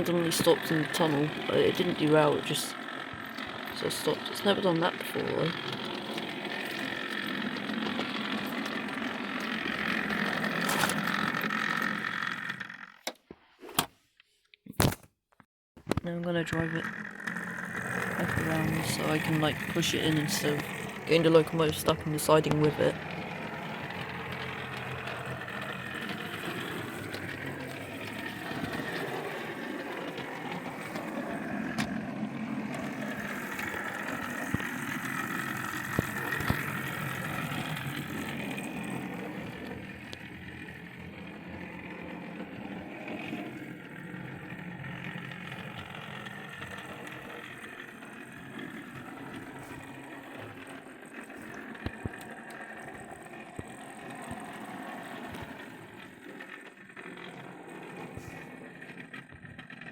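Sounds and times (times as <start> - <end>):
model train whirr and rumble: 0.0 - 13.2, 16.3 - 59.9.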